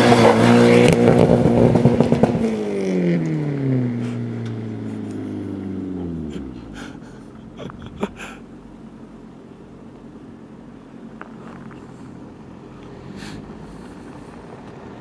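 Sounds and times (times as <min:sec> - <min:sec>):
car driving off: 0:00.0 - 0:15.0.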